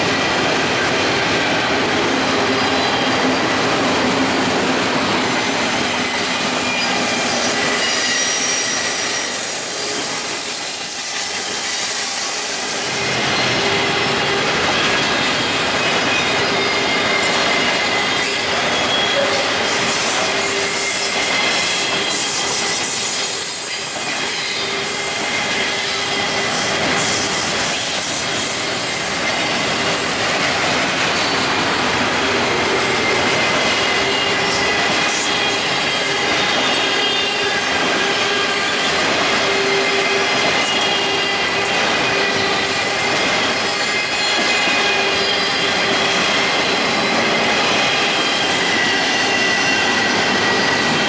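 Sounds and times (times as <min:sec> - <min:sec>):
freight train rumbling and rattling: 0:00.0 - 0:51.0.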